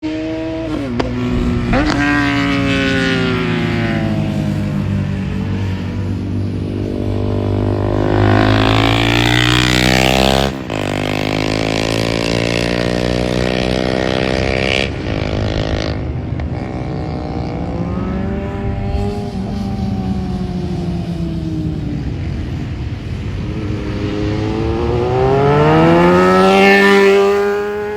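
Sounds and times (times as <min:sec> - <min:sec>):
motorcycle engine revving: 0:00.0 - 0:21.0, 0:23.5 - 0:27.9.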